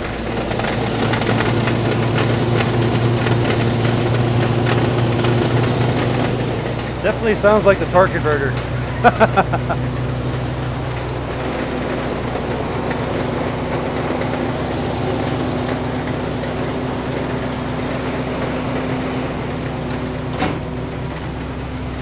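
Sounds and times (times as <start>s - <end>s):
car engine knocking: 0.0s - 22.0s.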